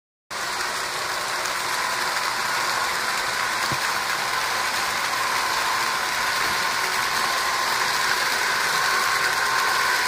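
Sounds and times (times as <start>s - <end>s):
model train whirring on track: 0.3s - 10.0s.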